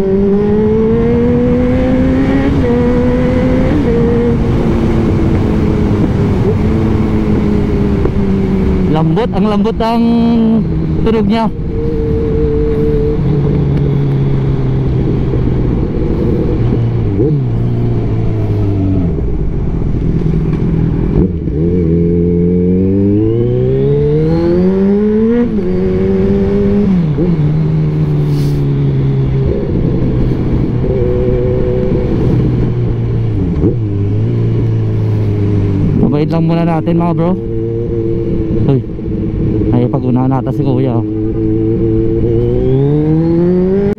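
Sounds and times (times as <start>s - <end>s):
motorcycle engine riding: 0.0s - 43.9s.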